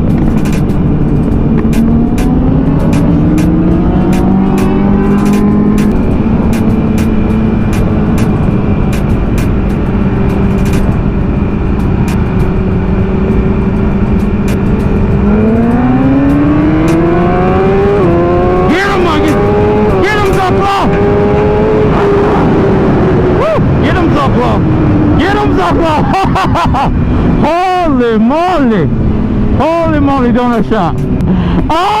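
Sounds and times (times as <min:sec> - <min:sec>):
motorcycle engine under way: 0:00.0 - 0:27.5
wind rushing over microphone: 0:00.0 - 0:32.0.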